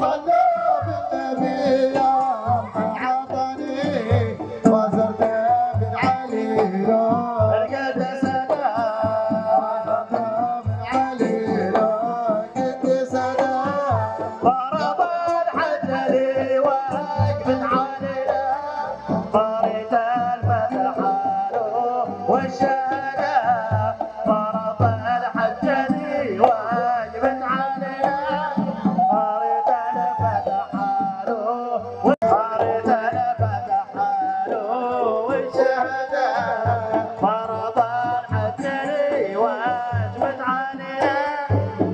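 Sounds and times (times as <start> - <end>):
hand drums beating: 0.0 - 41.9.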